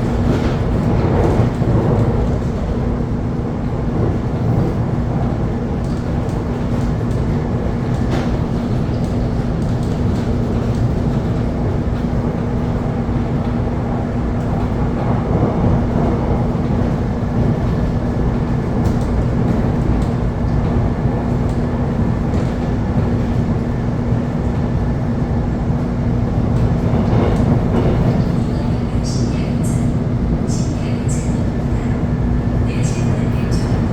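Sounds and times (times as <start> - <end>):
train rumbling along track: 0.0 - 33.9.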